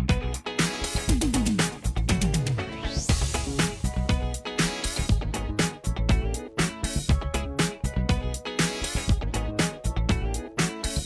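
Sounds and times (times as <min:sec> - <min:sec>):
upbeat funk music with drum beat: 0:00.0 - 0:11.0.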